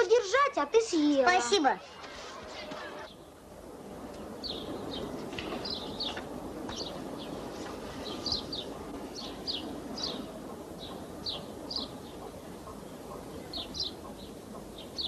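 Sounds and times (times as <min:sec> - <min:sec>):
steady low hiss: 0:00.0 - 0:15.0
small birds chirping: 0:02.5 - 0:15.0.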